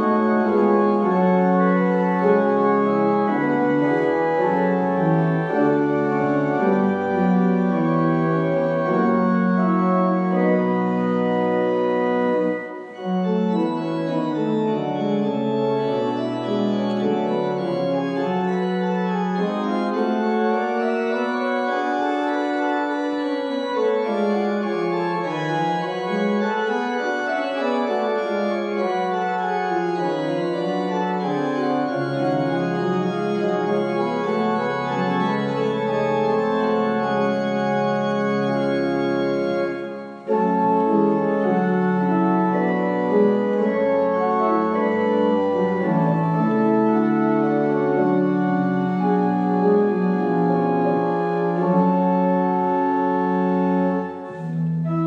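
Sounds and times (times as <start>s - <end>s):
organ playing held chords: 0.0s - 55.0s.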